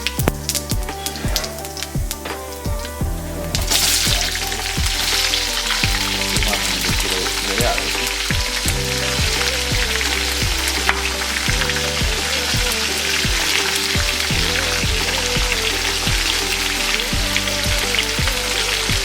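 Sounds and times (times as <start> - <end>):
background music with a beat: 0.0 - 19.0.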